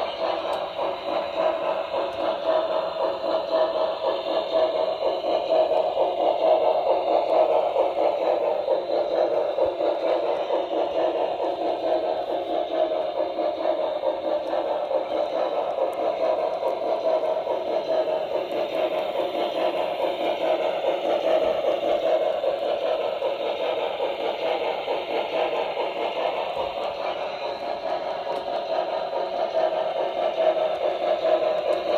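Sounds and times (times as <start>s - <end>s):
steam locomotive chuffing from speaker: 0.0s - 31.9s.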